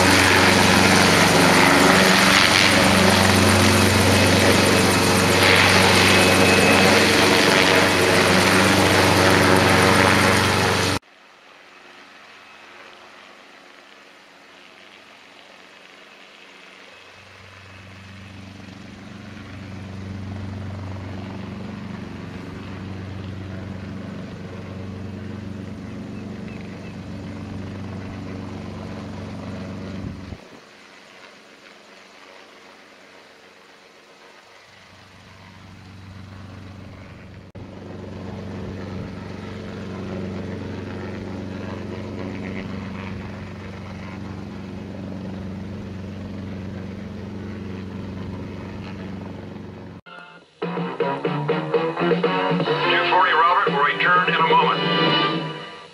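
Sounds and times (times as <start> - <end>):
loud running noise: 0.0 - 11.2, 11.9 - 50.0
helicopter engine and rotor drone: 0.0 - 50.0, 53.0 - 55.9.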